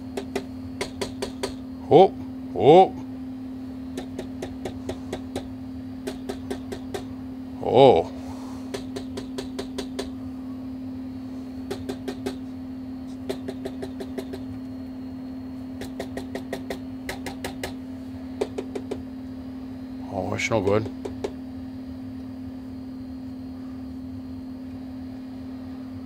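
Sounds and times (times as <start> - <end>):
power supply fans humming: 0.0 - 26.0.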